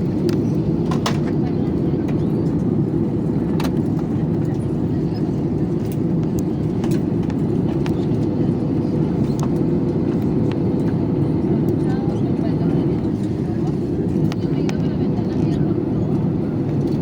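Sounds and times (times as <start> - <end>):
jet engine and airflow noise: 0.0 - 17.0.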